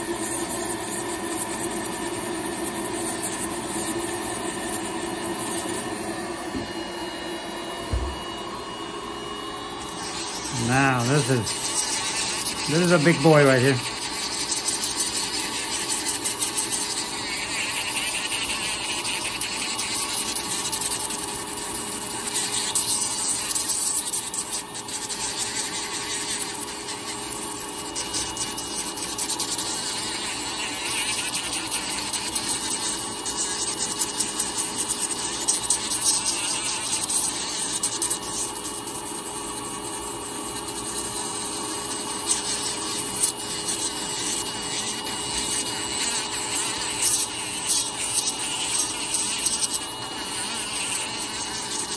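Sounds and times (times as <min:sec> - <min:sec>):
nail drill grinding toenail: 0:00.0 - 0:08.3, 0:09.6 - 0:51.9.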